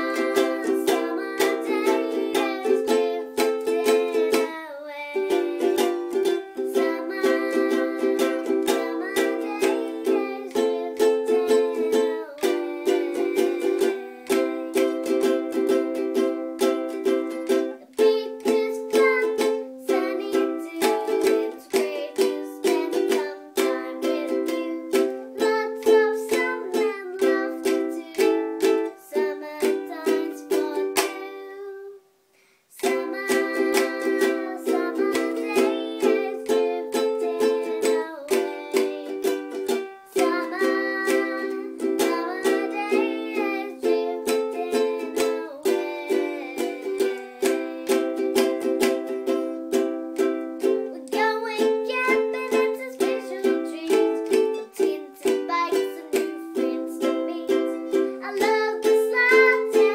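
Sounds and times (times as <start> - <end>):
ukulele strumming: 0.0 - 32.0, 32.8 - 59.9.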